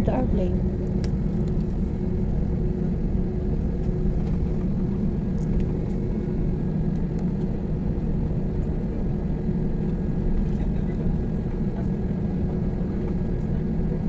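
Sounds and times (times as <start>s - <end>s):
airliner engines humming in cabin: 0.0s - 14.0s.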